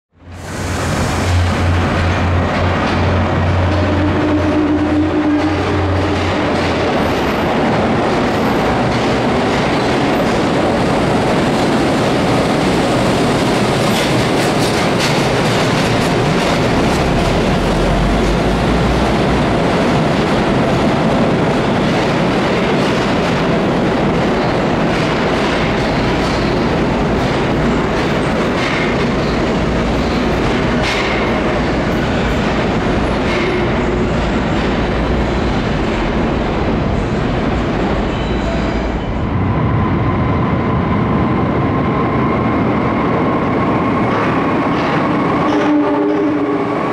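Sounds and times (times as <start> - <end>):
train rumbling through station: 0.1 - 46.9.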